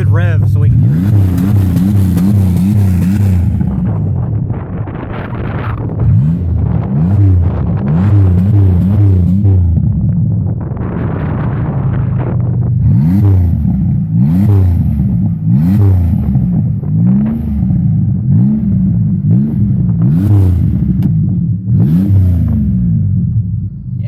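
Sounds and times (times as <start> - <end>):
car engine revving without exhaust: 0.0 - 24.0.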